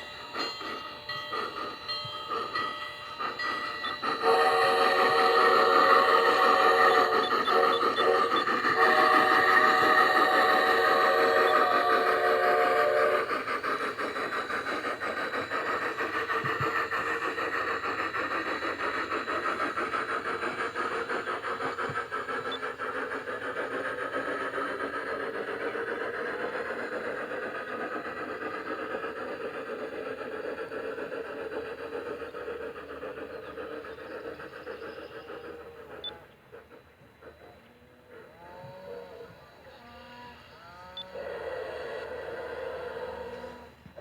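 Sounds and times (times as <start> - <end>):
model steam locomotive running: 0.0 - 44.0.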